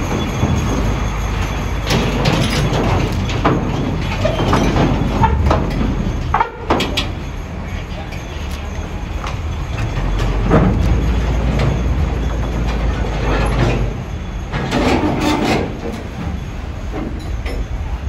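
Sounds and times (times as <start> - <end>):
steel ramp clanking and rattling: 0.0 - 18.0
truck diesel engine rumbling: 0.0 - 18.0.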